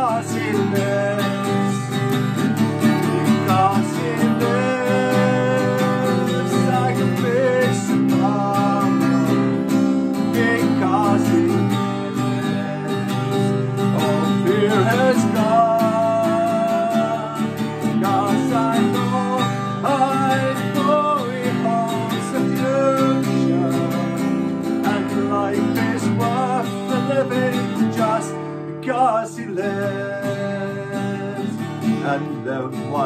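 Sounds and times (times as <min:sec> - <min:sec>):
acoustic guitar strumming: 0:00.0 - 0:33.0
man singing a hymn: 0:00.0 - 0:33.0.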